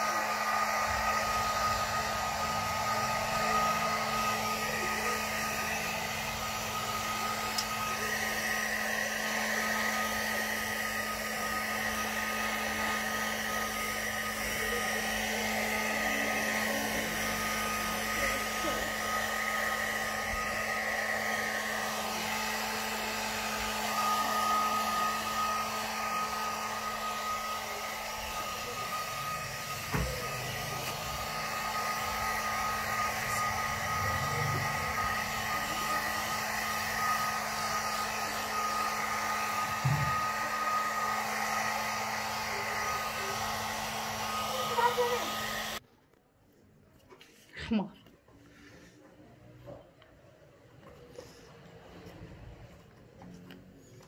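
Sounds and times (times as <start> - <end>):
hair dryer running: 0.0 - 45.8.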